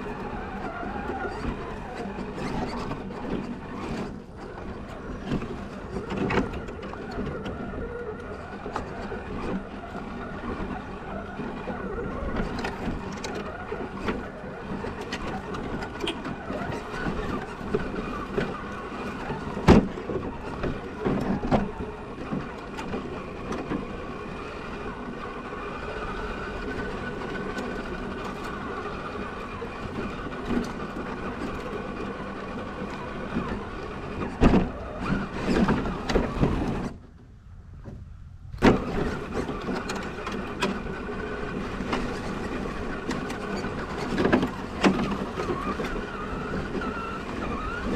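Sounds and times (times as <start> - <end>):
electric motor and gearbox whine: 0.0 - 47.9.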